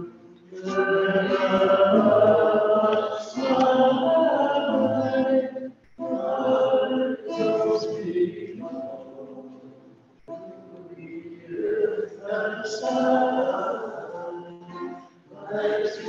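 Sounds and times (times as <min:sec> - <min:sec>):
classical guitar: 0:00.0 - 0:16.0
voices singing a hymn: 0:00.0 - 0:16.0.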